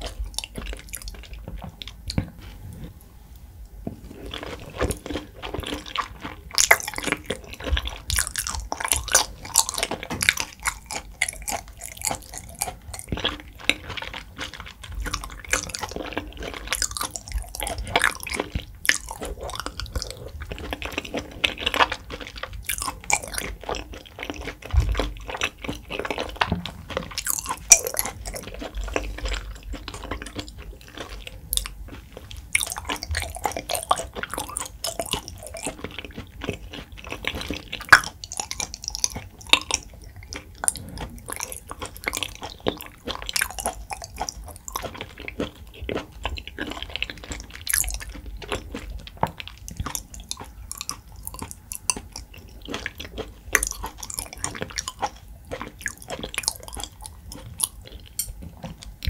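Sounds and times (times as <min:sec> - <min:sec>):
person chewing raw meat: 0:00.0 - 0:03.0, 0:03.9 - 0:59.0.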